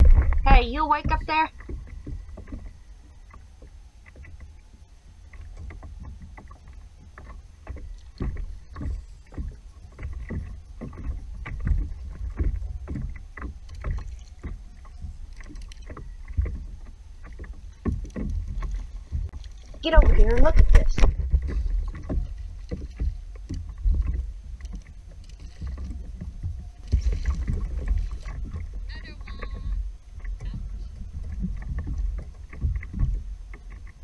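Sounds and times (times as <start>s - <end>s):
wind rumble on microphone: 0.0s - 3.4s, 7.8s - 34.0s
water slapping against kayak hull: 0.0s - 34.0s.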